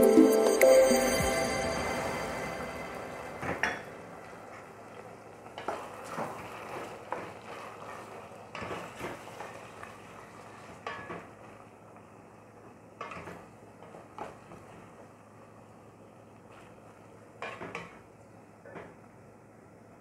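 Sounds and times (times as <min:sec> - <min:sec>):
faint frying hiss: 0:01.6 - 0:20.0.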